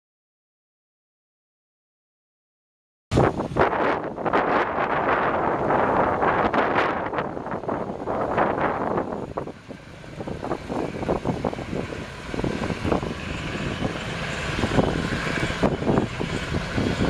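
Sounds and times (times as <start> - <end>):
truck engine running: 3.2 - 17.0.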